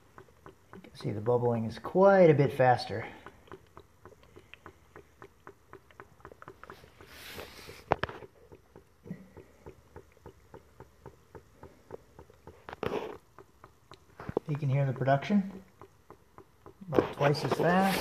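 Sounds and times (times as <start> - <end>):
gas bubbles popping: 0.0 - 18.0.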